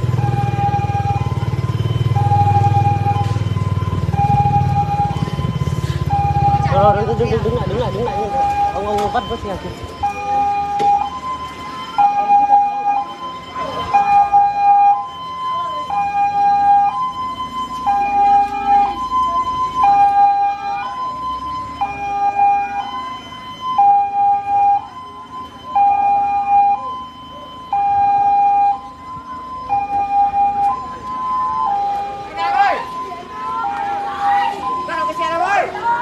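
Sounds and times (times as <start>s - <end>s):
ambulance two-tone siren: 0.0s - 36.0s.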